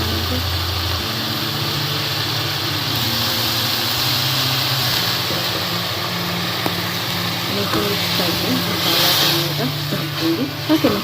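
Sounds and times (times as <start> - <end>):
paste sizzling in a hot pan: 0.0 - 11.0.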